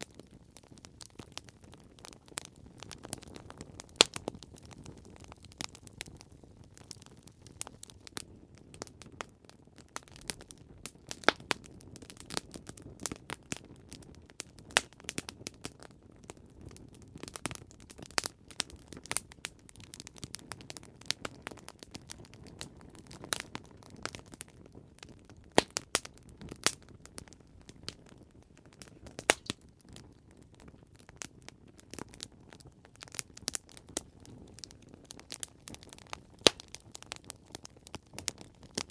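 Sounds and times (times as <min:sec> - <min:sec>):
campfire crackling and popping: 0:00.0 - 0:38.9
low steady fire hiss: 0:00.0 - 0:38.9.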